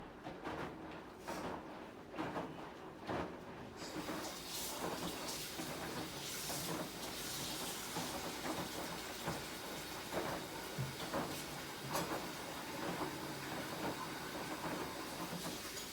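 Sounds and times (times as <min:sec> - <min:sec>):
washing machine running: 0:00.0 - 0:15.9.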